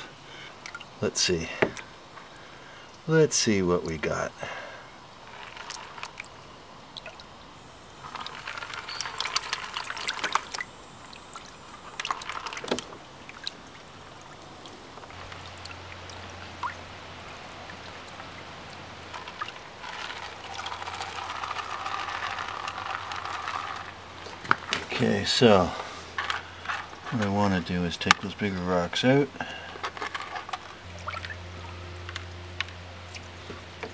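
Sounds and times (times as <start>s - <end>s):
faint steady low hum: 0.0s - 33.9s
water sloshing and splashing: 5.2s - 28.4s, 29.8s - 33.9s.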